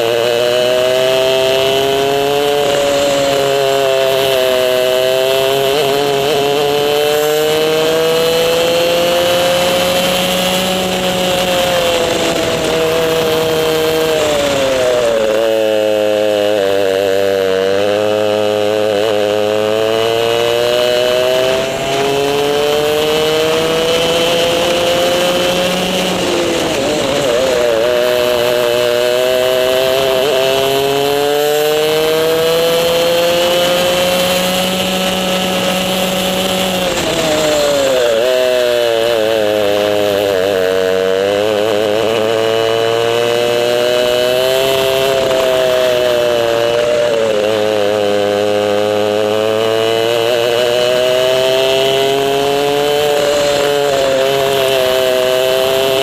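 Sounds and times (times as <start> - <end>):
kart engine at full throttle: 0.0 - 56.0.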